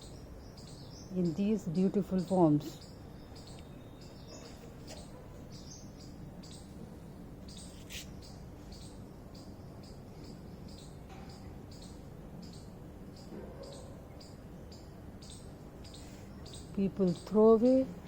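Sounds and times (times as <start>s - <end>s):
low background noise: 0.0s - 18.0s
small birds chirping: 0.0s - 18.0s.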